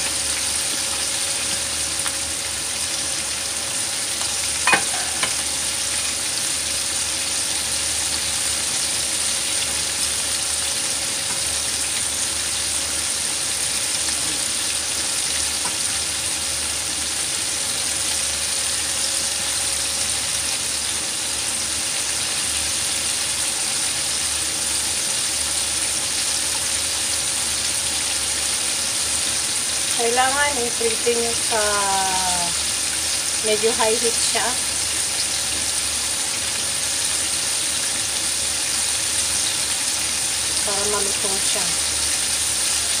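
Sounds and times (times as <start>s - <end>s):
chicken deep-frying in oil: 0.0s - 43.0s.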